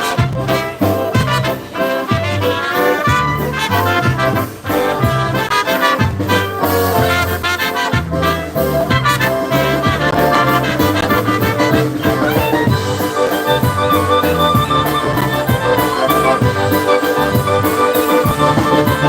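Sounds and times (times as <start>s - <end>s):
polka band playing: 0.0s - 19.0s.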